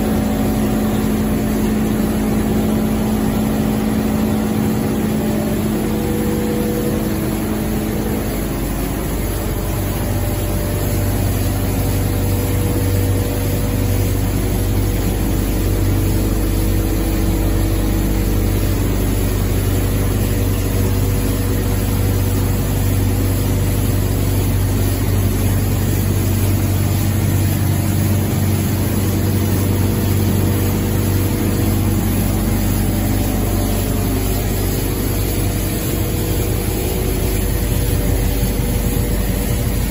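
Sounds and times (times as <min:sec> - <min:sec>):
loud machine drone: 0:00.0 - 0:39.9
low hum: 0:00.0 - 0:39.9.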